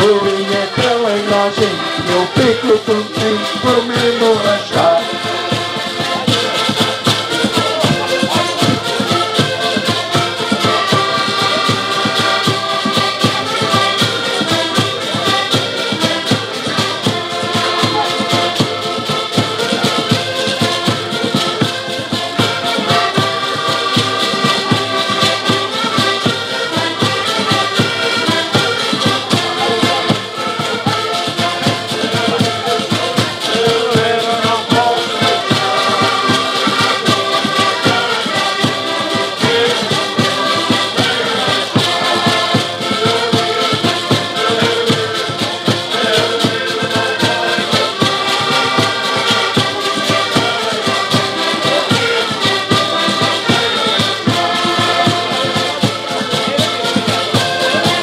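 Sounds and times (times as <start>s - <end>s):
accordions playing lively tune: 0.0s - 58.0s
drum beat: 0.0s - 58.0s
rattling percussion: 0.0s - 58.0s.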